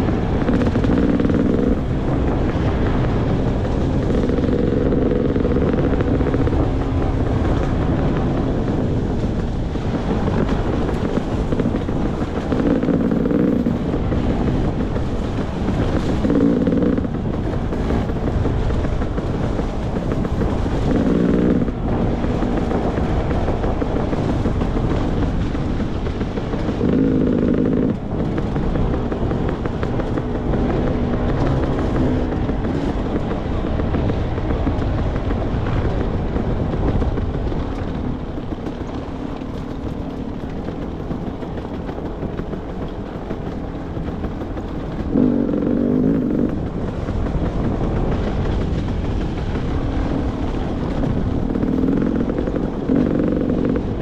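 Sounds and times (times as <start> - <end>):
dirt bike engine running: 0.0 - 54.0
riding noise rumble: 0.0 - 54.0.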